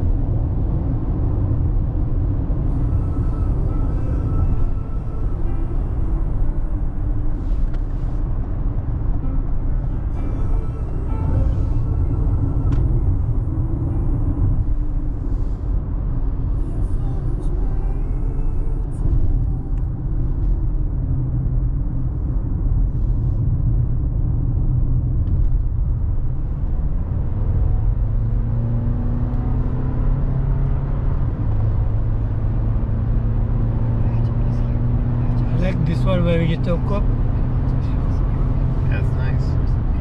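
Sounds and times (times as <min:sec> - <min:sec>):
car engine running: 0:00.0 - 0:40.0
road and tyre rumble: 0:00.0 - 0:40.0.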